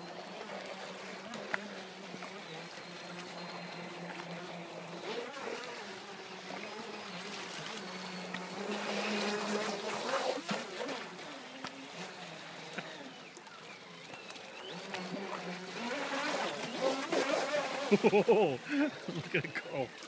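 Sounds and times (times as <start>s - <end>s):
toy boat electric motor whining: 0.0s - 20.0s.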